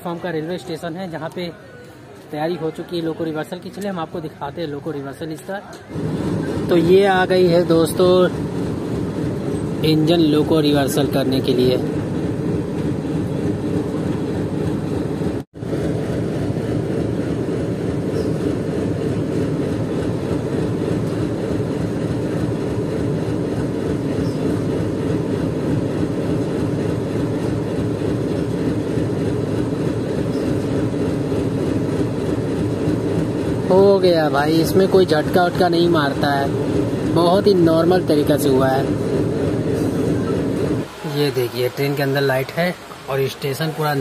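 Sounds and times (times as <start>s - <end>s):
diesel locomotive engine idling: 0.0s - 44.0s.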